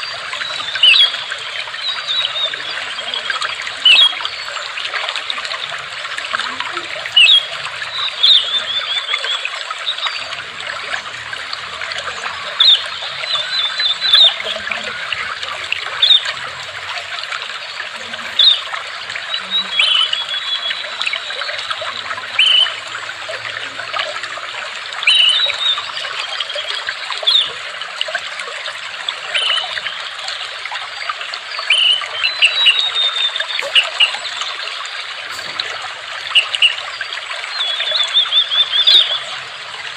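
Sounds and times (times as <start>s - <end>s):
birds chirping and trilling: 0.0s - 27.6s, 31.6s - 39.9s
water trickling: 0.0s - 39.9s.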